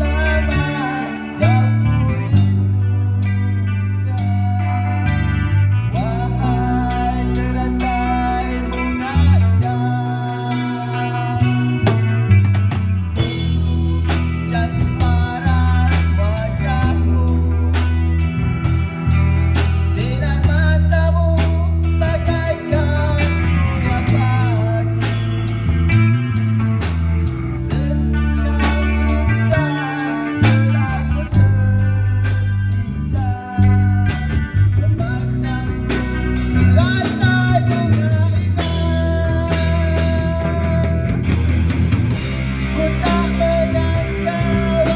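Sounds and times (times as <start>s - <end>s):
man singing into a microphone: 0.0s - 12.3s, 13.0s - 18.5s, 19.6s - 26.4s, 27.3s - 41.5s, 42.1s - 44.9s
distorted electric guitars: 0.0s - 44.9s
drum kit beat: 0.0s - 44.9s.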